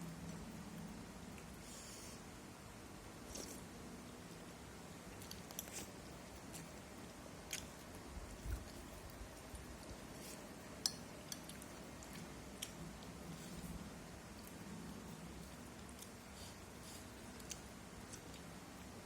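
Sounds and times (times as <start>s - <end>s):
quiet chewing: 3.2s - 19.0s.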